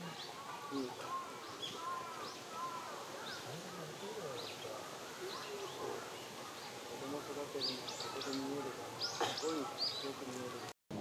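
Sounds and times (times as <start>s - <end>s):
birds whistling: 0.0s - 10.3s
birds chirping: 0.0s - 11.0s
steady outdoor hiss: 0.0s - 11.0s.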